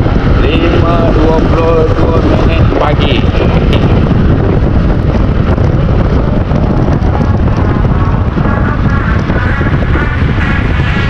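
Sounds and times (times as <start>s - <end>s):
scooter engine and road noise: 0.0s - 11.0s
wind buffeting microphone: 0.0s - 11.0s.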